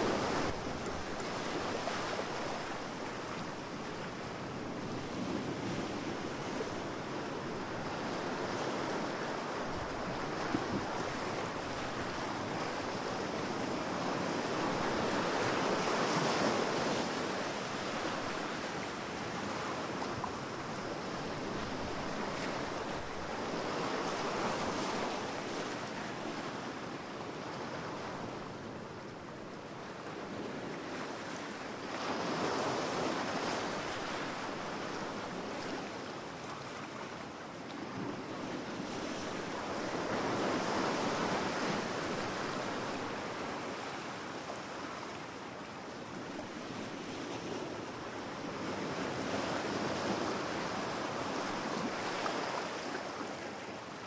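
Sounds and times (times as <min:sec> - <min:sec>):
sea waves breaking on a beach: 0:00.0 - 0:54.0.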